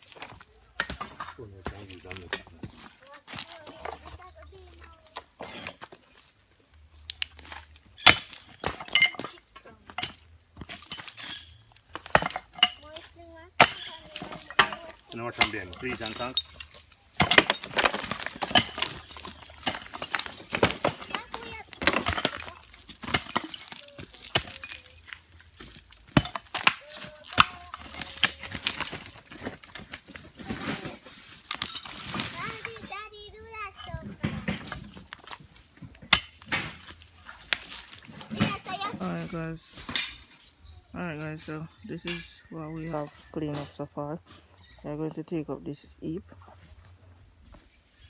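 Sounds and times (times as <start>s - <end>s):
debris clinking and cracking: 0.0s - 43.8s.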